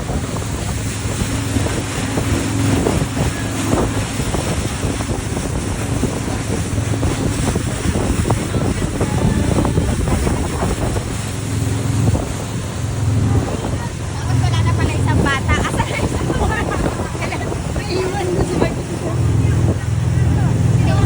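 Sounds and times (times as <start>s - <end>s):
speedboat motor running: 0.0s - 21.0s
water rushing: 0.0s - 21.0s
wind buffeting microphone: 0.0s - 21.0s.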